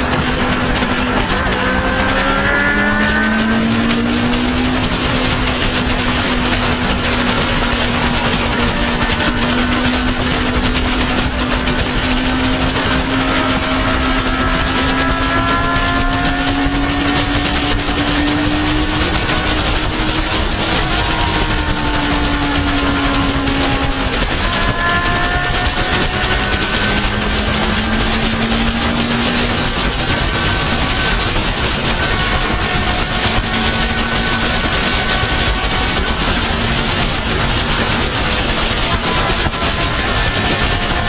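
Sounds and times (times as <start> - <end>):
motorcycle engine running: 0.0 - 41.0
rush of noise: 0.0 - 41.0.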